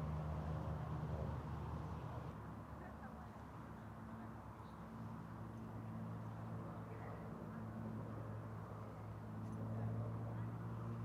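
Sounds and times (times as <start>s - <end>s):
faint low engine hum: 0.0s - 11.0s.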